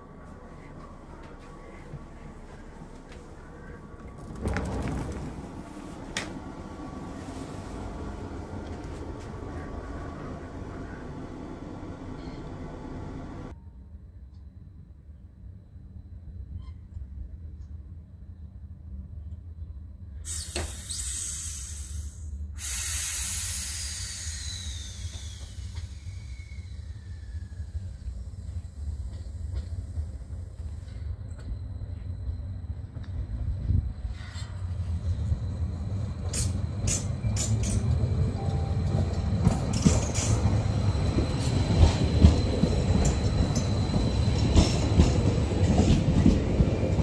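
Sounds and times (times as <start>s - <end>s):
train door opening rumble: 0.0s - 13.5s, 20.3s - 47.0s
steady train noise: 0.0s - 47.0s.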